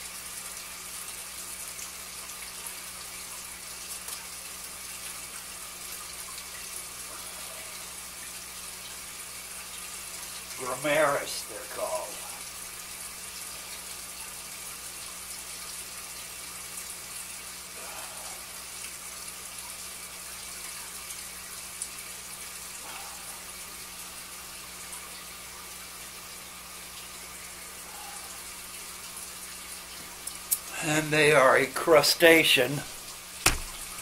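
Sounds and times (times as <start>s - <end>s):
water trickling and bubbling: 0.0s - 31.2s
faint steady hum: 0.0s - 34.0s.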